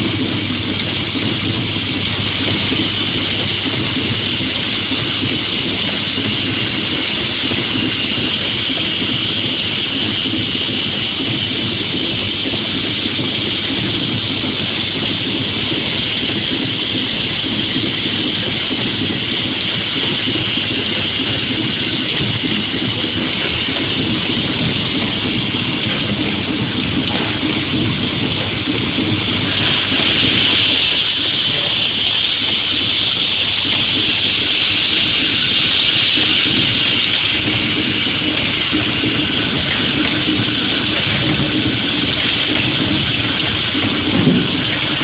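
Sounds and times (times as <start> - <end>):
vibratory feeder rattling and humming: 0.0 - 45.0.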